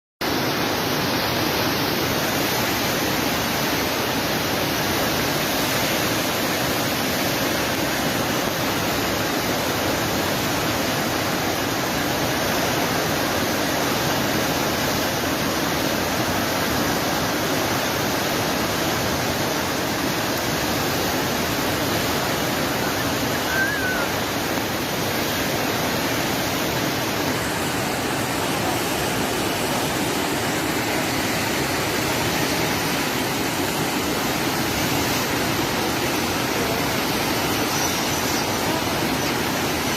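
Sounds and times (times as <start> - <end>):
floodwater rushing river: 0.2 - 39.9.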